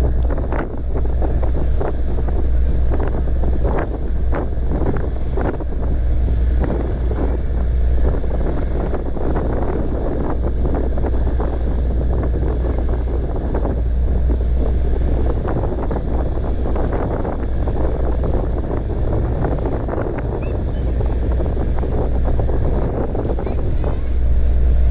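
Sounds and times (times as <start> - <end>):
low rumble of boat and sea: 0.0 - 24.9
wind buffeting microphone: 0.0 - 24.9.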